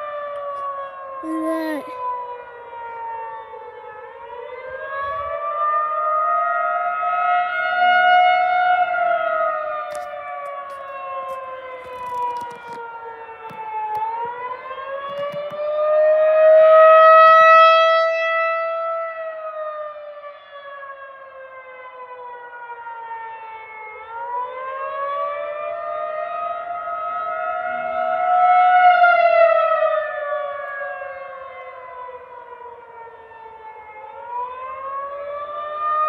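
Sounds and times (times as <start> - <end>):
warning siren rising and falling: 2.0 - 36.0.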